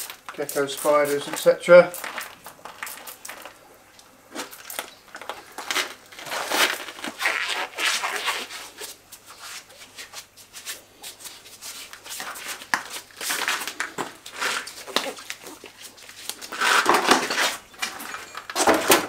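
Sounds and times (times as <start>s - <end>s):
gloves rubbing and crinkling: 0.0s - 17.9s.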